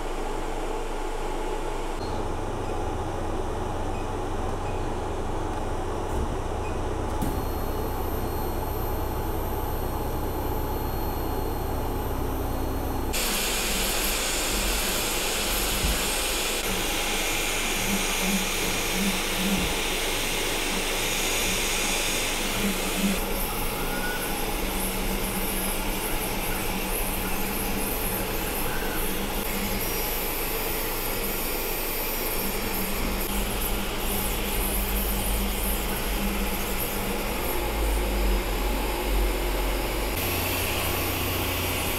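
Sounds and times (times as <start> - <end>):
whir of fans and motors: 0.0 - 41.9
three d printer humming: 1.9 - 41.9.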